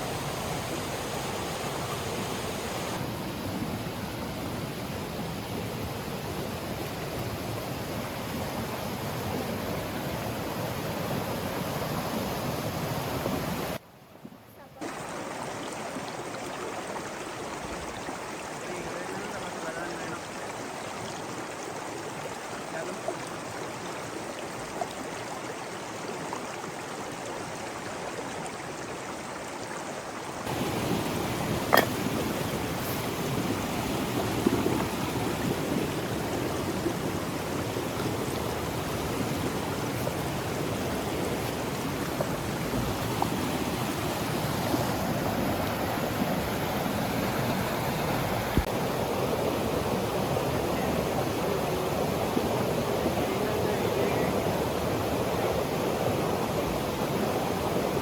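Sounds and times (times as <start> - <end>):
running water rushing: 0.0 - 13.8, 14.4 - 58.0.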